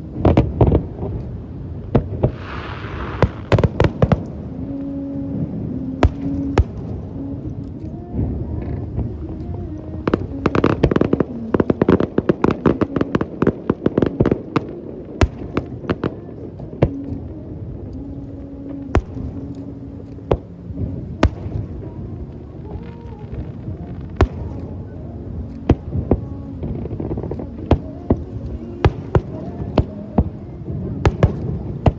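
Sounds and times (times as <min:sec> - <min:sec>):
rapid crackling reports: 0:00.0 - 0:31.9.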